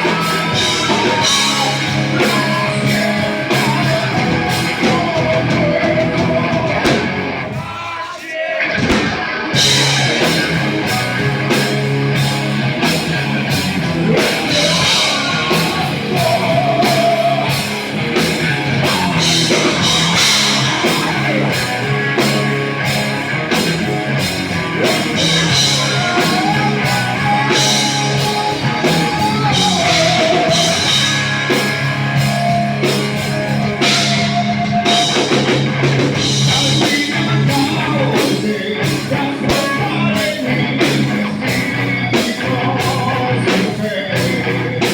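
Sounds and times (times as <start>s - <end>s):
loud rock music with drums: 0.0s - 44.9s.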